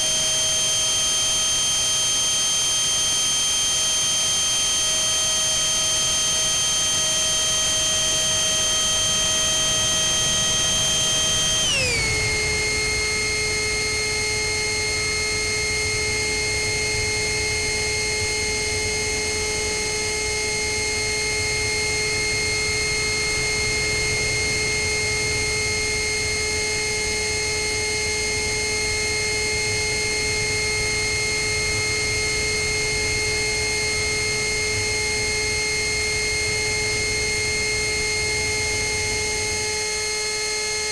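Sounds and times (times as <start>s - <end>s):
electric ducted fan whining: 0.0s - 40.9s.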